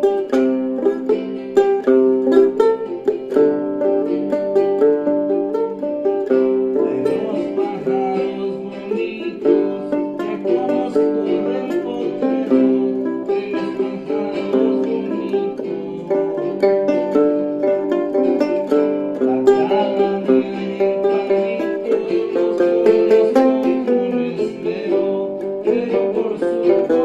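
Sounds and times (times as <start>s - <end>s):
plucked string instrument melody: 0.0s - 27.0s.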